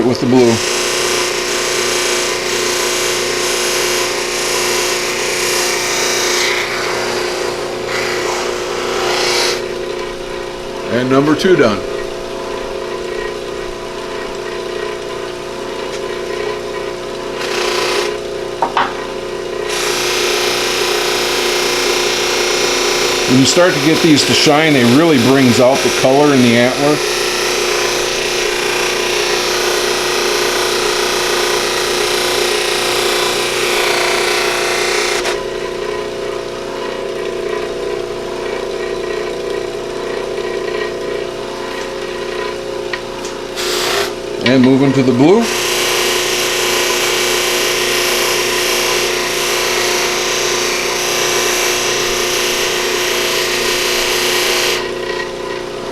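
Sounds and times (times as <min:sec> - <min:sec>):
buffing machine motor humming: 0:00.0 - 0:18.7, 0:19.4 - 0:35.8, 0:43.2 - 0:55.9.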